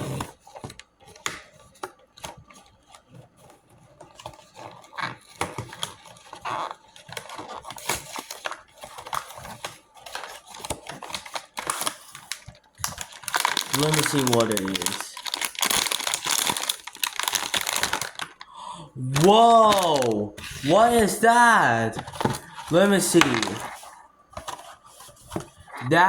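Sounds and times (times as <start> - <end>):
packaging crinkling and tearing: 0.0 - 26.0.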